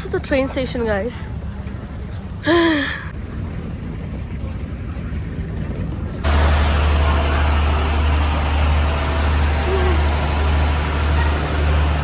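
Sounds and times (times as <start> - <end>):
moving train rumbling: 0.0 - 12.0.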